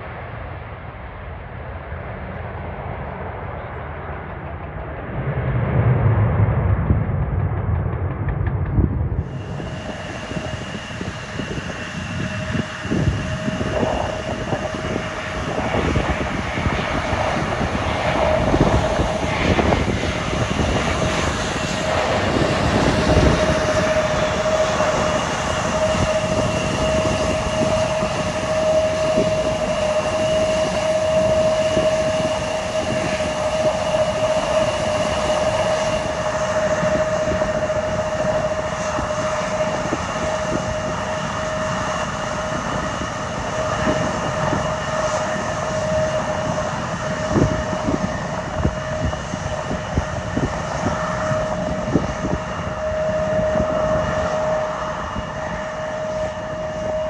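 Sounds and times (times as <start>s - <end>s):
continuous rumbling noise: 0.0s - 57.0s
jet engines whining: 0.0s - 57.0s.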